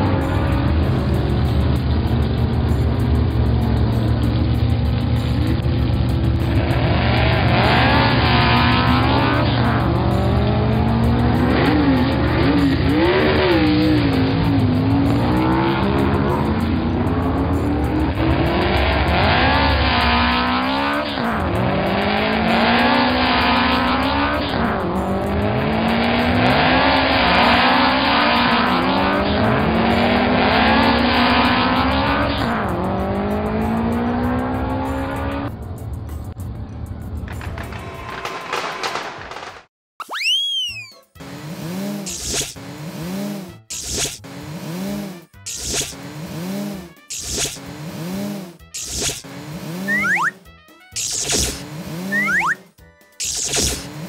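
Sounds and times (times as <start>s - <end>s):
race car engines revving: 0.0s - 39.6s, 41.2s - 50.4s, 51.6s - 52.6s.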